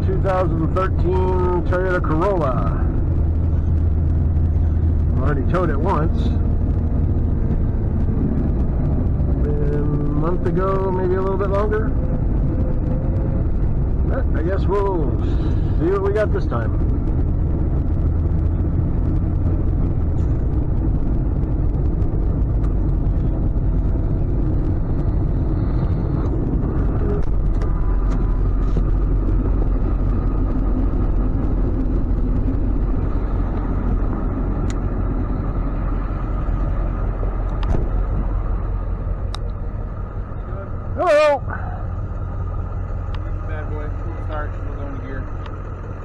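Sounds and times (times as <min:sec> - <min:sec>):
truck engine rumbling: 0:00.0 - 0:46.0.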